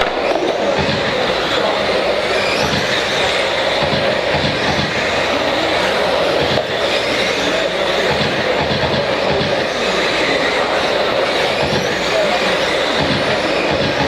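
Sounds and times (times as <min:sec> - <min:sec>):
rc trucks whining drone: 0:00.0 - 0:14.0.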